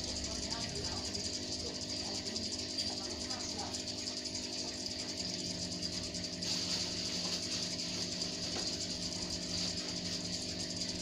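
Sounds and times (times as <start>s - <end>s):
bubbling water hiss: 0.0s - 11.0s
water pump humming: 0.0s - 11.0s.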